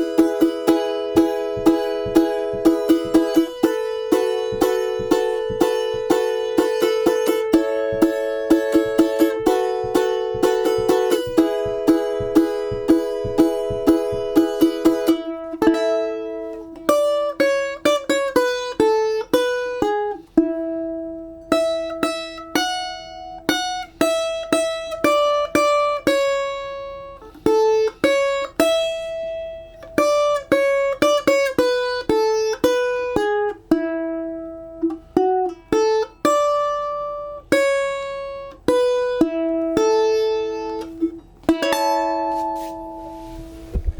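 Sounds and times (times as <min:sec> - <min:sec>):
balalaika melody: 0:00.0 - 0:43.9.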